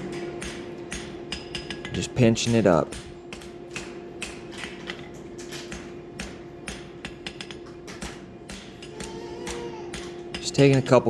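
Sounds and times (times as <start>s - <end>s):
hammer tapping horseshoe on anvil: 0.0s - 11.0s
steady low hum: 0.0s - 11.0s.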